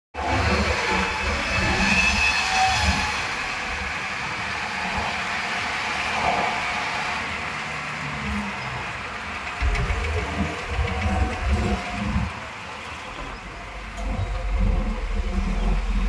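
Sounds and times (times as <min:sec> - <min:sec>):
rickshaw ride rumble and hiss: 0:02.4 - 0:16.0.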